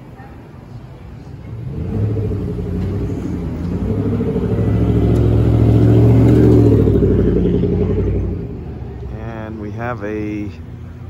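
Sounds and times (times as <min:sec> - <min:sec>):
vehicle engine passing: 0:01.2 - 0:11.0.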